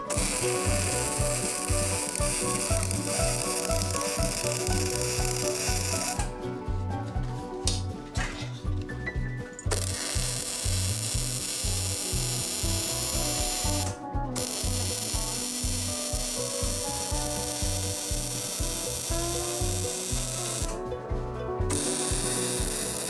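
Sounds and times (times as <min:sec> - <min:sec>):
welding arc crackling: 0:00.0 - 0:06.3, 0:09.7 - 0:20.8, 0:21.7 - 0:23.0.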